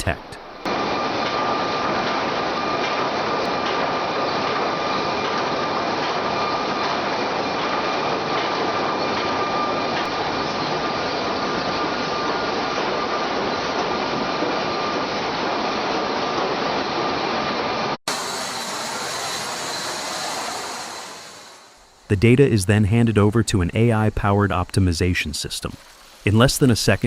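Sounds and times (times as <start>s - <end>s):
high mechanical whine: 0.0s - 27.0s
sawmill machinery and conveyors running: 0.4s - 27.0s.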